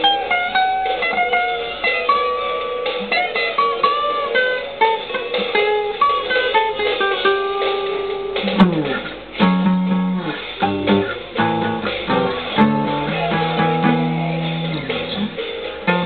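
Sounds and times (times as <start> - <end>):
guitar solo: 0.0 - 16.0.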